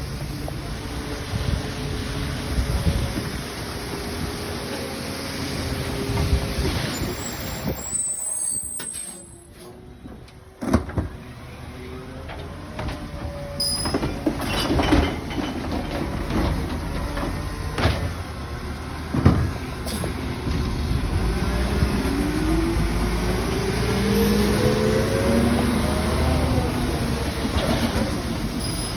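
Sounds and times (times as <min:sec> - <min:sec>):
garbage truck engine and hydraulics: 0:00.0 - 0:28.9.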